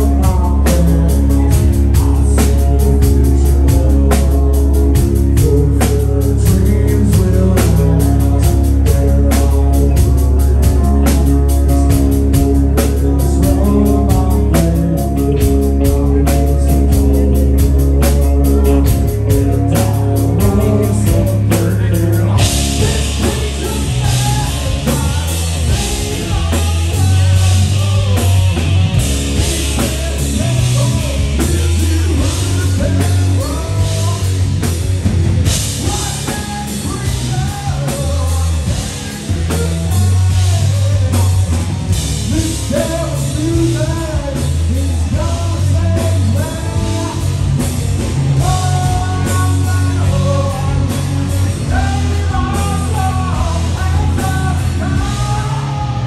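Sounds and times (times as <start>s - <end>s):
bass guitar: 0.0s - 56.0s
drum kit: 0.0s - 56.0s
electric guitar: 0.0s - 56.0s
man singing: 0.0s - 56.0s.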